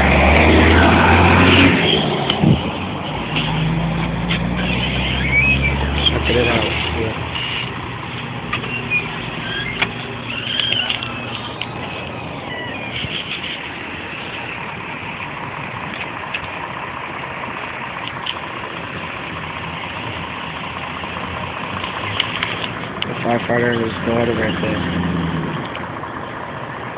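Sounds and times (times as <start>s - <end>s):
street traffic noise: 0.0s - 26.9s
vehicle engine idling: 0.0s - 26.9s.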